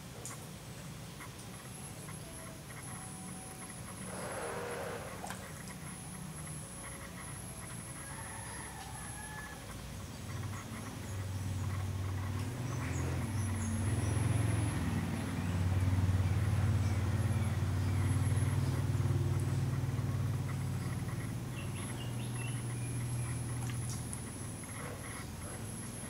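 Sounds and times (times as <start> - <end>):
low engine-like hum: 1.3 - 26.0
high insect drone: 1.5 - 26.0.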